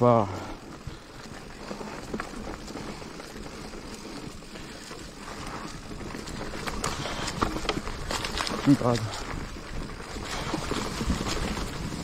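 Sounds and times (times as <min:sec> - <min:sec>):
bike rolling on rough trail: 0:00.0 - 0:12.0
wind buffeting microphone: 0:00.0 - 0:12.0.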